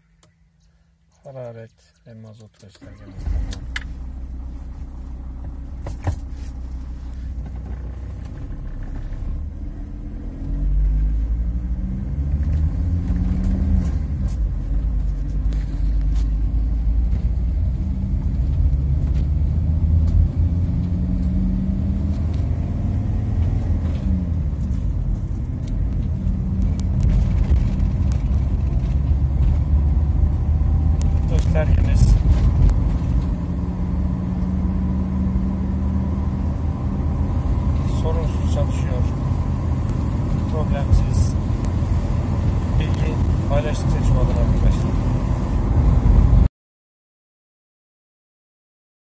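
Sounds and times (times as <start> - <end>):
diesel engine revving: 2.8 - 46.5.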